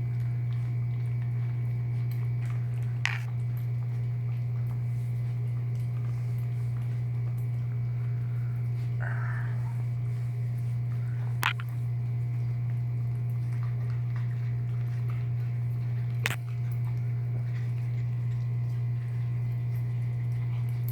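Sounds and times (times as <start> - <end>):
puppies chewing and smacking: 0.0 - 20.9
steady low hum: 0.0 - 20.9.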